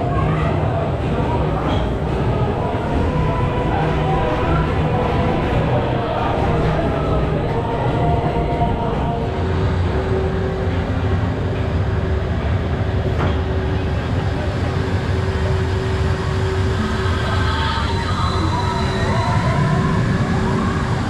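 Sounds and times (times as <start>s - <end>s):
roller coaster machinery hum: 0.0s - 21.0s.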